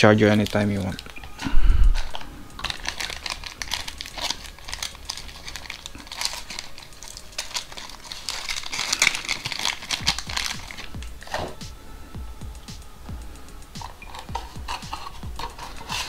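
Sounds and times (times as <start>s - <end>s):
plastic bag crinkling: 0.0s - 11.6s, 13.8s - 16.0s.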